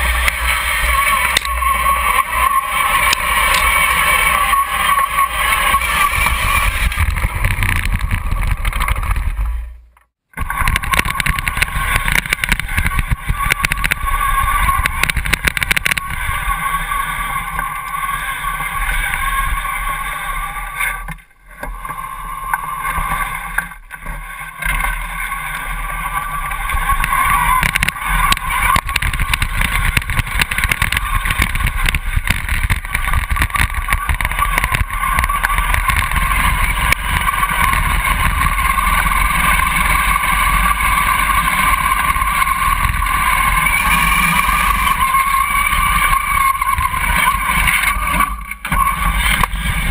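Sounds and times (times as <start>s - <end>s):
tracked vehicle motors running: 0.0s - 49.9s.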